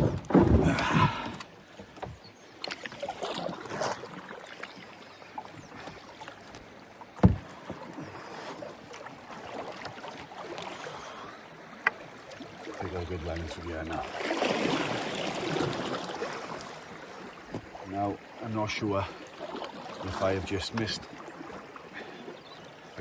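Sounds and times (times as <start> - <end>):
canoe paddle strokes: 0.0 - 23.0
water swishing and dripping: 0.0 - 23.0.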